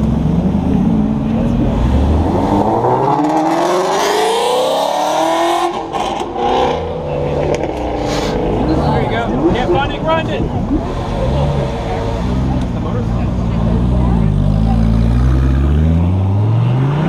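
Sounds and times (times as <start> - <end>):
sports car engine accelerating: 0.0 - 17.0.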